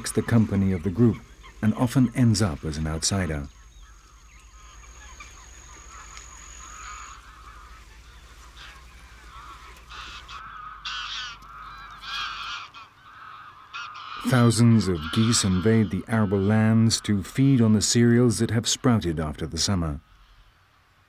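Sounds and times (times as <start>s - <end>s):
geese calling: 0.0s - 20.6s.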